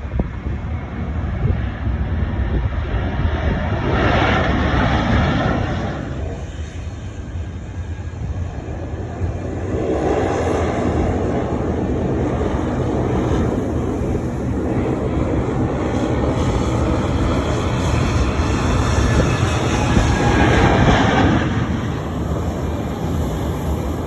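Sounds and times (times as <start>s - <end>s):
jet airliner engine rumbling: 0.0s - 24.0s.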